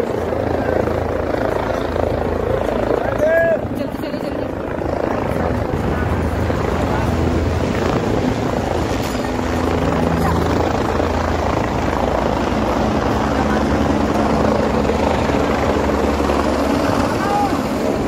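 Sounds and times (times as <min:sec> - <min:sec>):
crowd chattering: 0:00.0 - 0:18.0
helicopter rotor chop and engine: 0:00.0 - 0:18.0.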